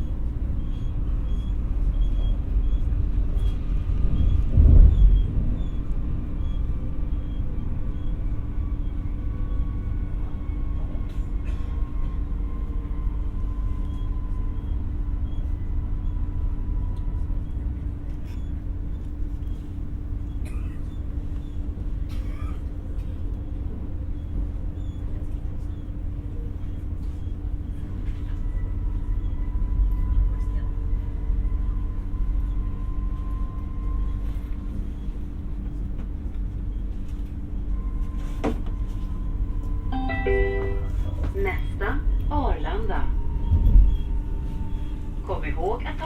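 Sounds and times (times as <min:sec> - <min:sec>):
train interior rumble: 0:00.0 - 0:46.0.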